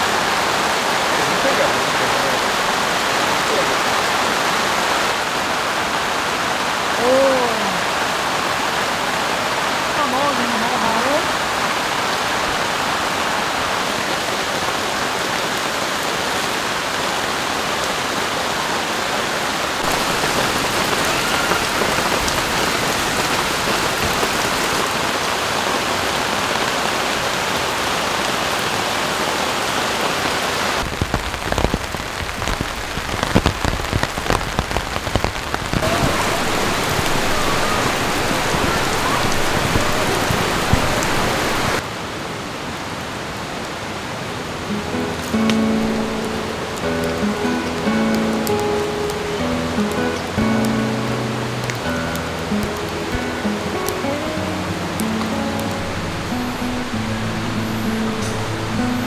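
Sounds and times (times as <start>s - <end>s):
rain on leaves and gravel: 0.0s - 59.0s.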